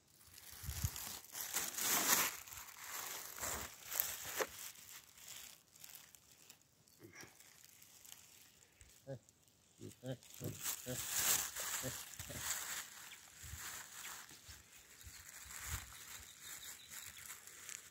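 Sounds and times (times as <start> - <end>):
close crinkling and rustling: 0.3 - 9.1, 9.9 - 17.9.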